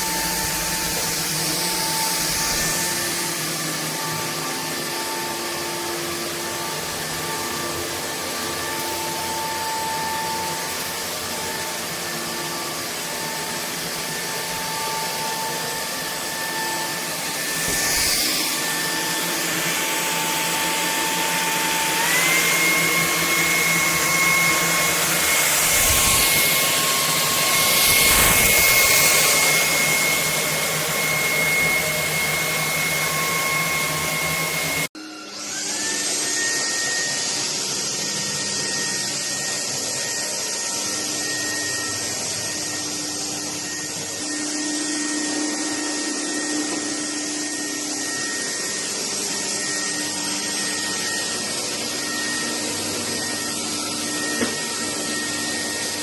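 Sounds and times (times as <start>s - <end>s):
stick vacuum motor whine: 0.0s - 56.0s.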